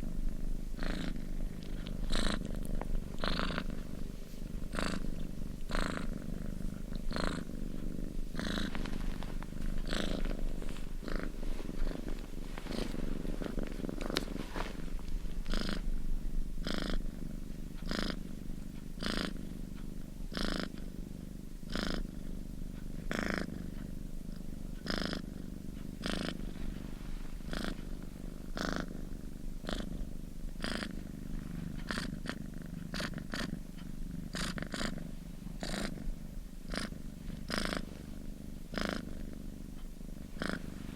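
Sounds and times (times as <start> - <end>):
cat purring: 0.0 - 40.9.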